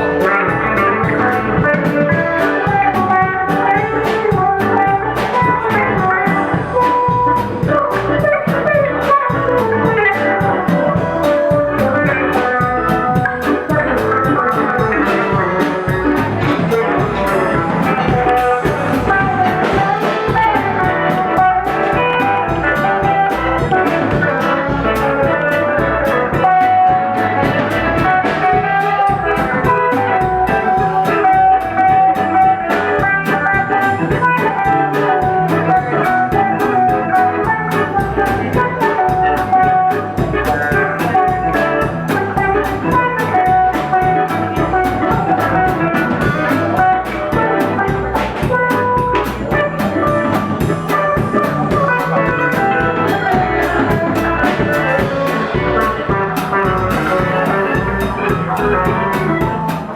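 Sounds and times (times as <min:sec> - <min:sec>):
drum kit: 0:00.0 - 0:59.9
electric guitar lead lines: 0:00.0 - 0:59.9.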